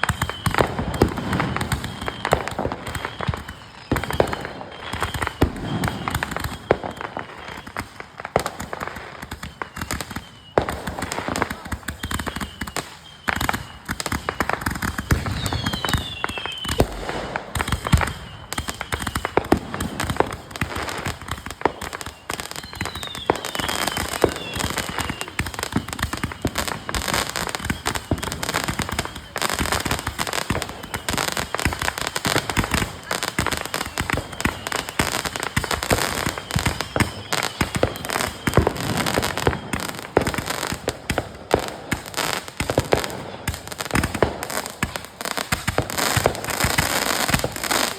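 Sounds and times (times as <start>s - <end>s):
fireworks crackling and popping: 0.0s - 47.9s
fireworks whistling: 0.0s - 47.9s.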